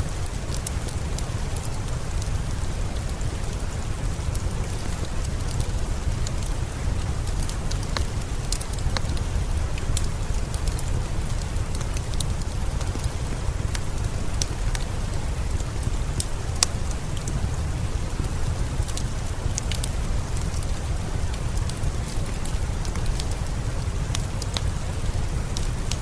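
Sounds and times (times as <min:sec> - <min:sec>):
steady rain: 0:00.0 - 0:26.0
wood fire crackling: 0:00.0 - 0:26.0.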